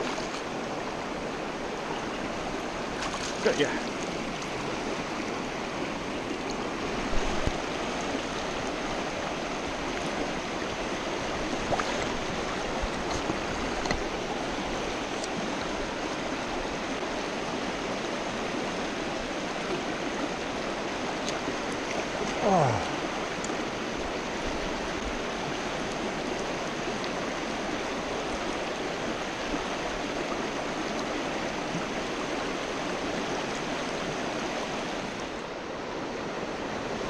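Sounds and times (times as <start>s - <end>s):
stream running over stones: 0.0s - 37.0s.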